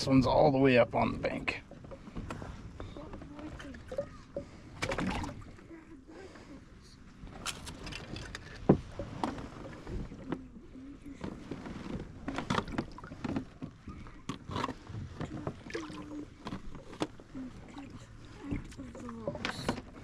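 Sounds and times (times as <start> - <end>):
paddle in water: 0.2 - 20.0.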